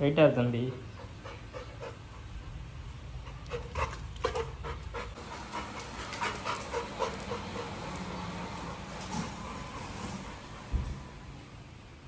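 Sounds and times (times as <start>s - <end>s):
dog panting hard: 0.6s - 10.7s.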